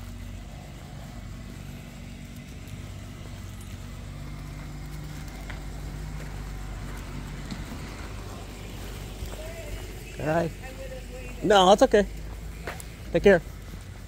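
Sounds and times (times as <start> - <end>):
light street traffic: 0.0 - 14.0
vehicle engine humming: 0.0 - 14.0.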